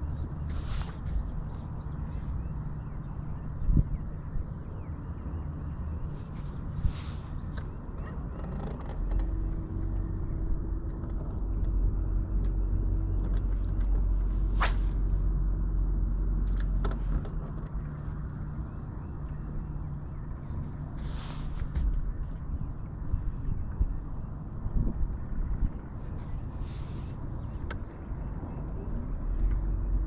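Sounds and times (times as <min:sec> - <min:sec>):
boat motor humming: 0:00.0 - 0:30.0.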